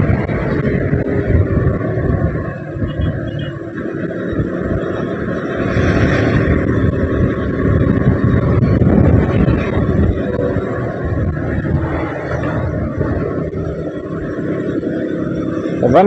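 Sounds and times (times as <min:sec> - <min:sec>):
motorcycle engine running: 0:00.0 - 0:16.0
wind rush on microphone: 0:00.0 - 0:16.0.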